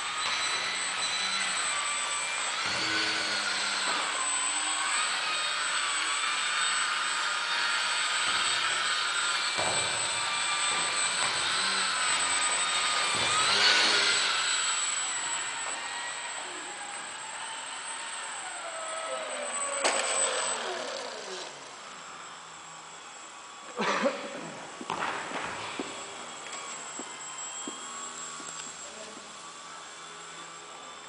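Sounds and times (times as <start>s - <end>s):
model plane motor whine: 0.0s - 31.0s.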